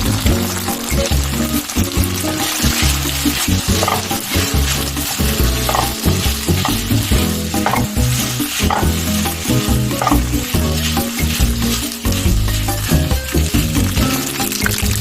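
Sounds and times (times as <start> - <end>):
food sizzling in a pan: 0.0 - 15.0
stirring strokes: 0.0 - 15.0.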